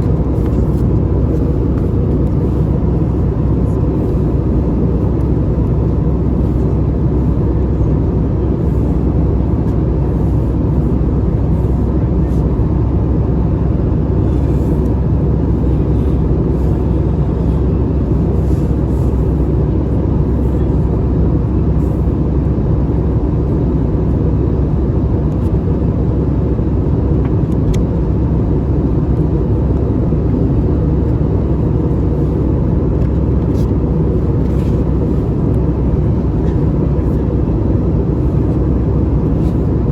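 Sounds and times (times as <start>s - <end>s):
low rumble of engines and airflow: 0.0s - 39.9s.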